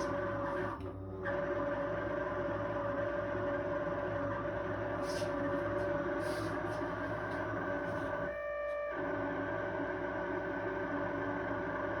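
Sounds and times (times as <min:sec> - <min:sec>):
refrigerator low hum: 0:00.0 - 0:12.0.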